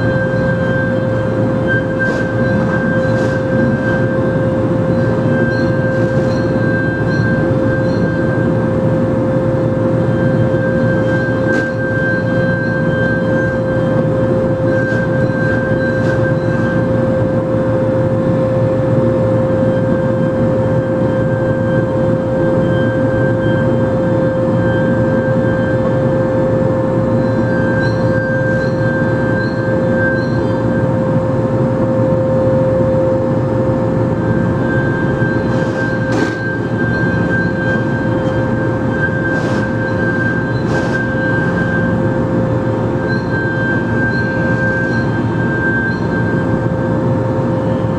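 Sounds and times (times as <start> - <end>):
milling machine spindle tone: 0.0 - 47.9.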